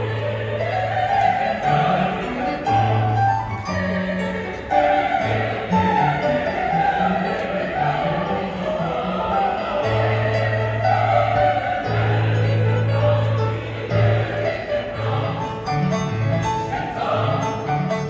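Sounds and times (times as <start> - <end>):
choir singing operatically: 0.0 - 18.0.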